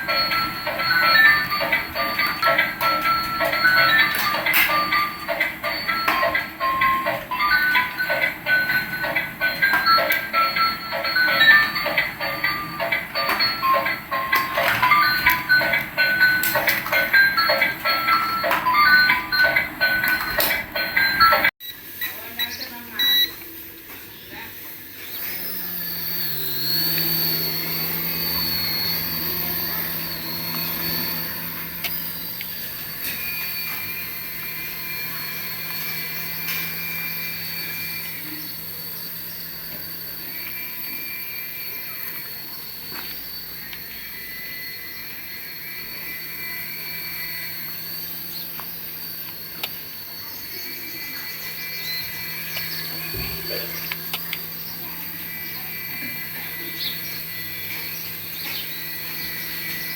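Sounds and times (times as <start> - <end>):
toy electric motor whining: 0.0 - 59.9.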